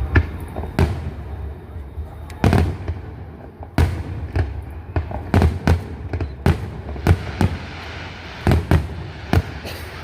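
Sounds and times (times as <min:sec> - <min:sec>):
fireworks bangs with low rumble: 0:00.0 - 0:10.0.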